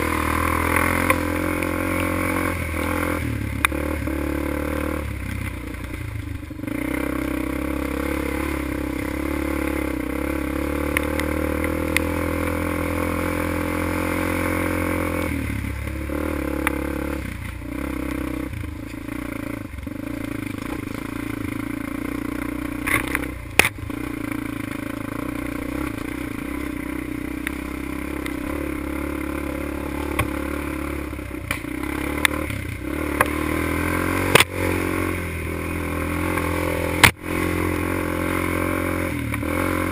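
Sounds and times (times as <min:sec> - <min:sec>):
atv engine running hard: 0:00.0 - 0:39.9.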